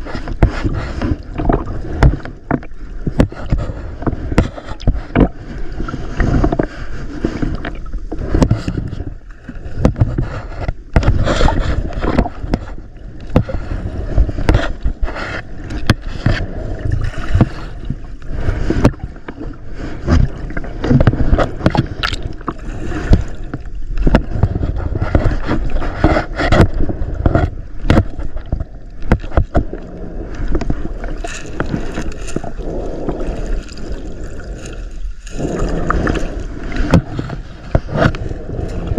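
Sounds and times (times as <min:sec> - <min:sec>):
knocks and sloshes: 0:00.0 - 0:38.9.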